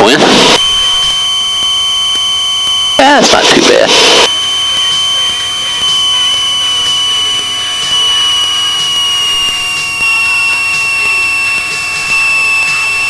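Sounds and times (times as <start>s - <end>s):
aircraft engine noise: 0.0s - 13.0s
high whine dropping in pitch: 0.0s - 13.0s.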